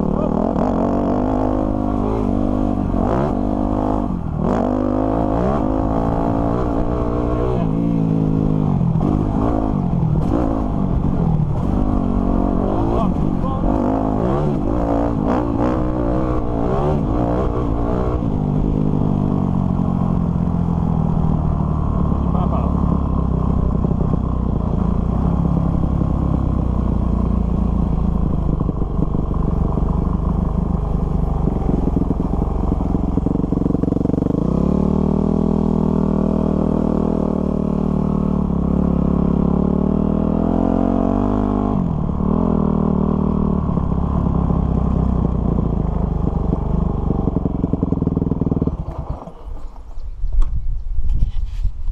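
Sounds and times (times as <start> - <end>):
dirt bike engine: 0.0 - 50.8.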